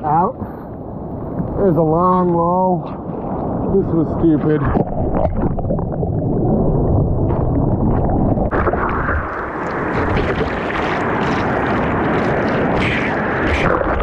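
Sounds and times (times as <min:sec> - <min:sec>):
ocean surf churning: 0:00.0 - 0:14.0.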